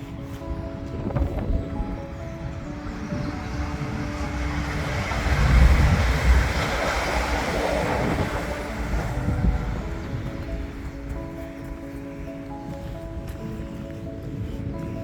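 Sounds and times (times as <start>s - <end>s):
train passing close by: 0.0s - 15.0s.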